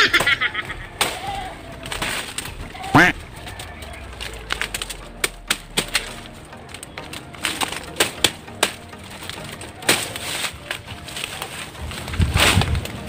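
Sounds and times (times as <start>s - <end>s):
palm stalks snapping: 0.0s - 13.0s.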